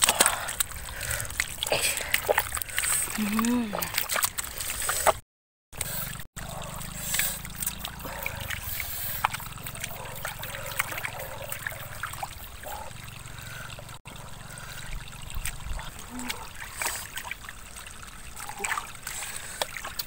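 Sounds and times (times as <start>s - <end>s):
hands squelching wet mud: 0.0s - 5.2s, 5.8s - 13.8s, 14.6s - 17.6s, 18.3s - 20.0s
water trickling: 0.0s - 5.2s, 5.8s - 20.0s.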